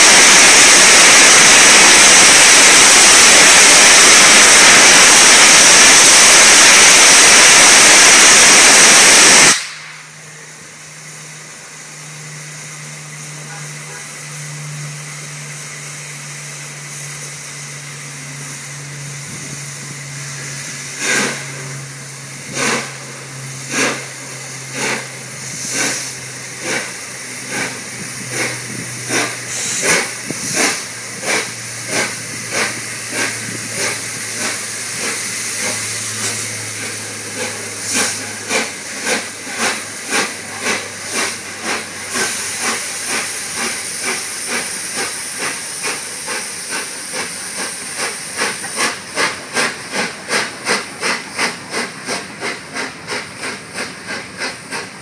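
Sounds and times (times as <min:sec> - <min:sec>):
steam hissing: 0:00.0 - 0:55.0
steam locomotive chuffing: 0:00.0 - 0:55.0.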